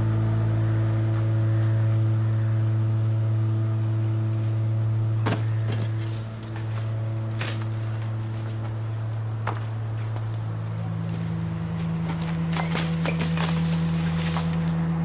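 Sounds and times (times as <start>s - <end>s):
low sustained film score drone: 0.0s - 15.0s.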